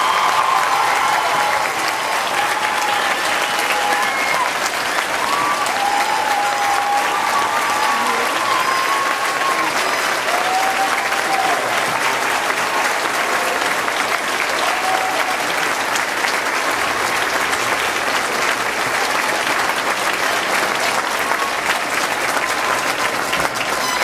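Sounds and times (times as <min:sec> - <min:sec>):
crowd applauding: 0:00.0 - 0:24.0.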